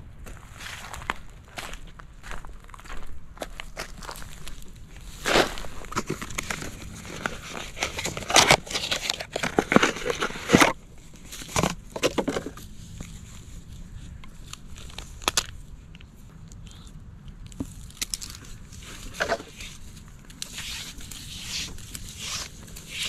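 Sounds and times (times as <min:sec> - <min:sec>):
rustling and crinkling handling noise: 0:00.2 - 0:23.0.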